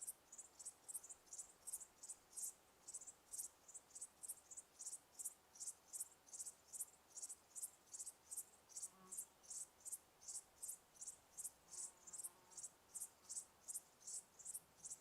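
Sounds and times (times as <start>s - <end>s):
insect chirping: 0.0s - 15.0s
soft background hiss: 0.0s - 15.0s.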